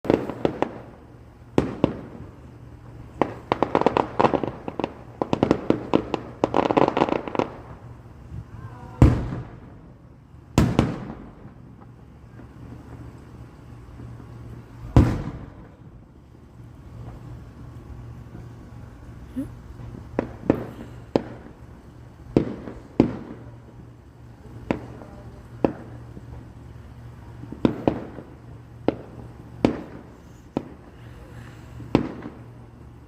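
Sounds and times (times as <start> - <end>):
fireworks crackling pops: 0.0 - 33.0
fireworks sharp bangs: 0.0 - 33.0
heavy fireworks booms echoing: 0.0 - 33.0.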